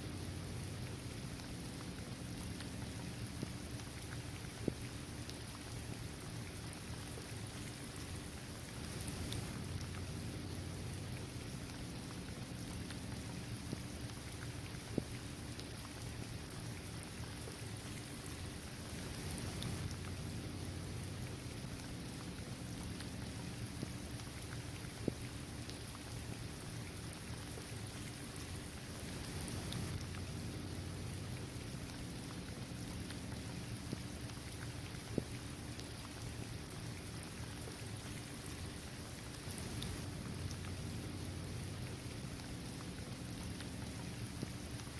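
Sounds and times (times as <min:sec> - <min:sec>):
rain falling on hard surface: 0:00.0 - 0:44.9
raindrops ticking: 0:00.1 - 0:44.9.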